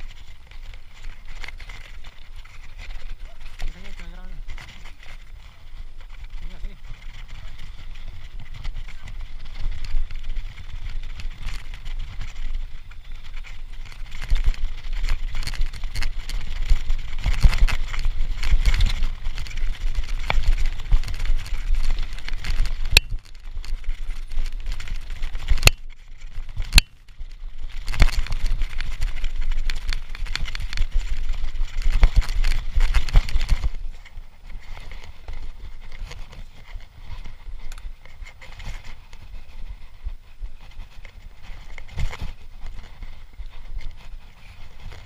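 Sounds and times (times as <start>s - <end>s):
bike rattling over rough ground: 0.0s - 45.0s.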